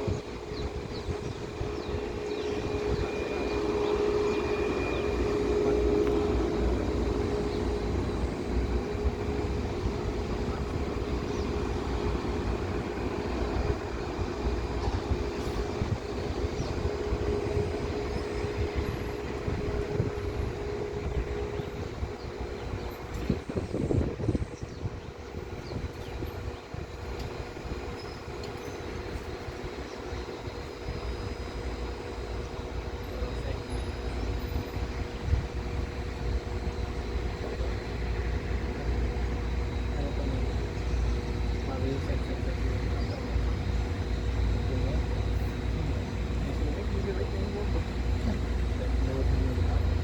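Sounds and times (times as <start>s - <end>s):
wind rumble on microphone: 0.0s - 31.5s, 32.3s - 42.2s
jet engines whining: 0.0s - 50.0s.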